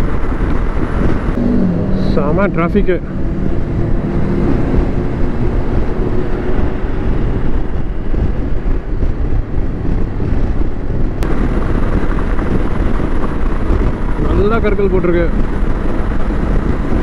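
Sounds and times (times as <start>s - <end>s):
motorcycle engine at speed: 0.0s - 17.0s
wind rushing over microphone: 0.0s - 17.0s.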